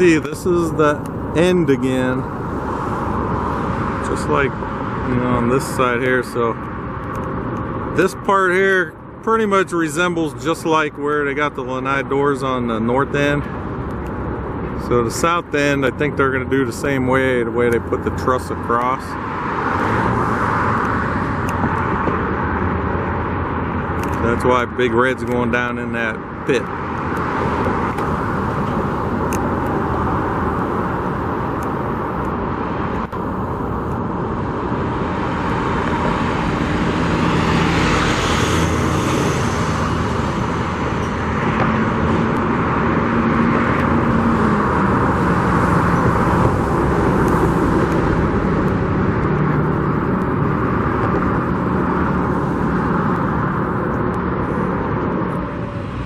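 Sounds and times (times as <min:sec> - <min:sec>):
low engine drone: 0:00.0 - 0:08.3, 0:10.0 - 0:56.0
vehicles passing close by: 0:00.0 - 0:56.0.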